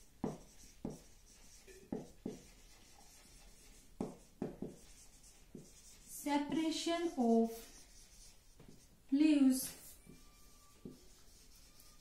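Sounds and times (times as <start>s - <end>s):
marker writing on whiteboard: 0.0s - 8.9s, 9.8s - 12.0s.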